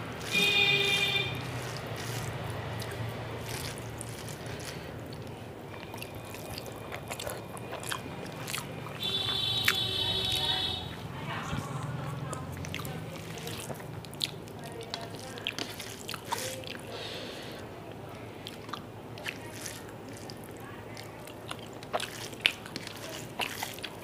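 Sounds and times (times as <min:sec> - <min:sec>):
person chewing: 0:00.0 - 0:24.0
fingers squishing rice on plate: 0:00.1 - 0:17.3, 0:17.9 - 0:24.0.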